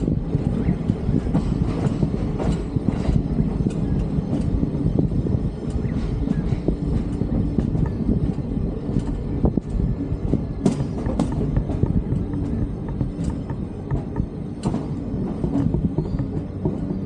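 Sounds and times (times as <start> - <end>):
rumble of wheels on rail: 0.0 - 17.0.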